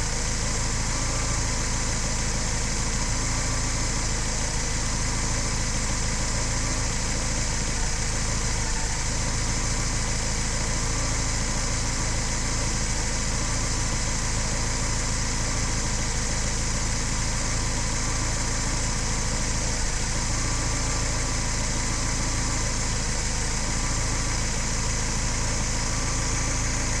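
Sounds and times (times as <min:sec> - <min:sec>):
car engine idling and misfiring: 0:00.0 - 0:27.0.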